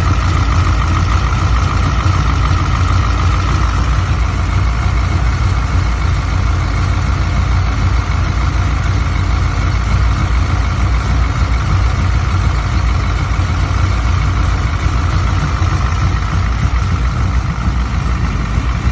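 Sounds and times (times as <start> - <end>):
vehicle engine idling: 0.0 - 18.9.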